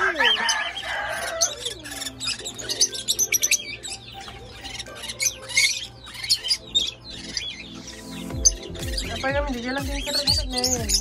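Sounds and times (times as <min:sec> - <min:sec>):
parrots chirping and squeaking: 0:00.0 - 0:11.0.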